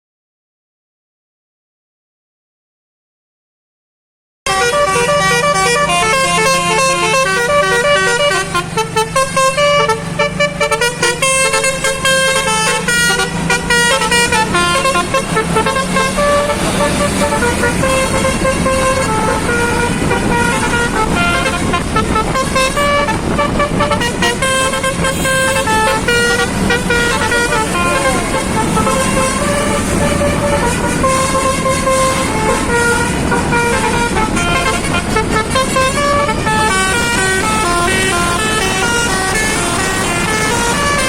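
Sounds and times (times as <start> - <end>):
musical bus horn melody: 4.5 - 41.0.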